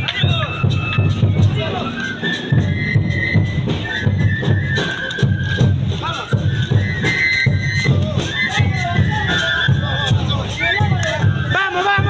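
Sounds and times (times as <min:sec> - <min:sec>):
bass drum beat: 0:00.0 - 0:12.0
high held melody: 0:00.0 - 0:12.0.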